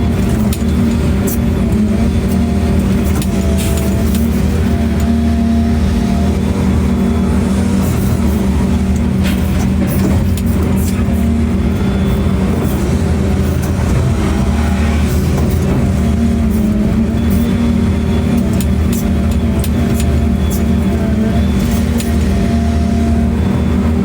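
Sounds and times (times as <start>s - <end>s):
large engine humming: 0.0s - 24.0s.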